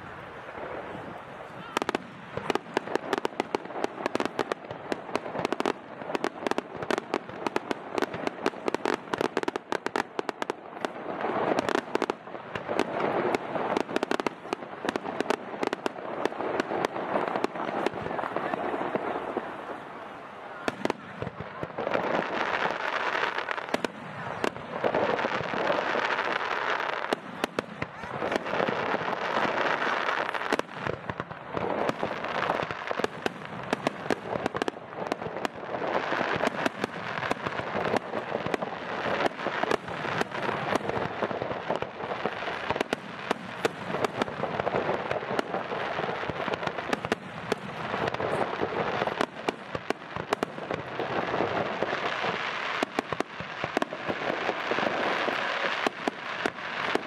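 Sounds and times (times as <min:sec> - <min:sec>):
firework shells bursting and crackling: 0:01.6 - 0:57.0.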